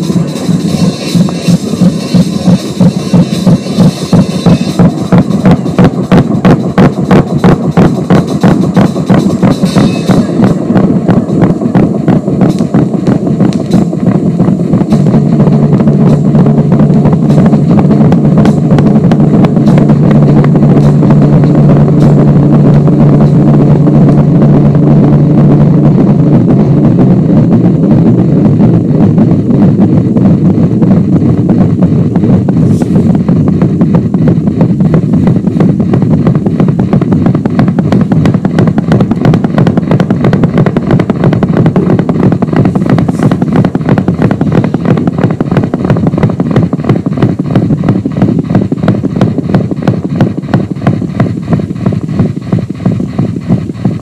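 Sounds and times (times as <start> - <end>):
distorted electronic drone: 0.0 - 54.0
fast electronic pulse: 0.0 - 54.0
low held tone: 0.0 - 54.0.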